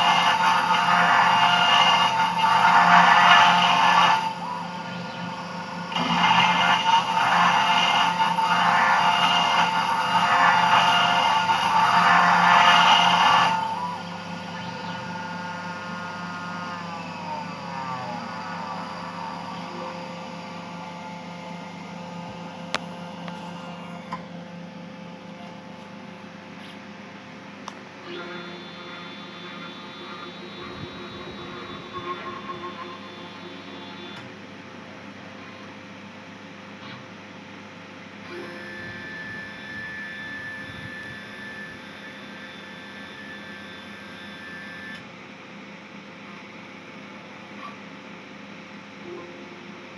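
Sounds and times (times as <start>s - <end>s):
machine motor humming: 0.0s - 34.4s, 38.1s - 45.1s.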